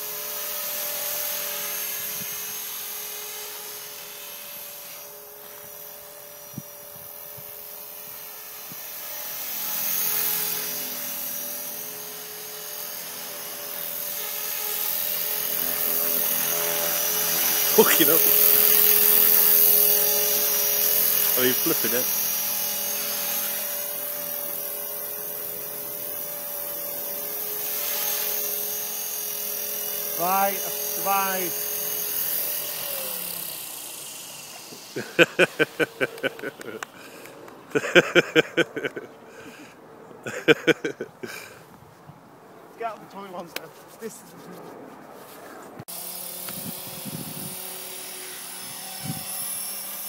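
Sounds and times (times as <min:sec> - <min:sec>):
model helicopter motor whine: 0:00.0 - 0:39.7, 0:45.8 - 0:50.0.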